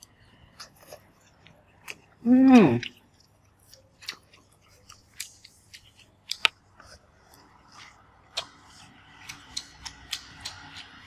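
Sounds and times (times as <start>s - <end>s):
crunching raw vegetables: 0.0s - 11.0s.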